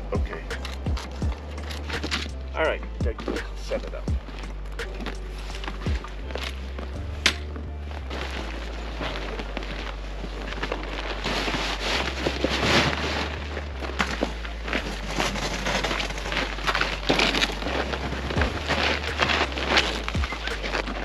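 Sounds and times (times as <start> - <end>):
shelter fabric rustling and crackling: 0.0 - 21.0.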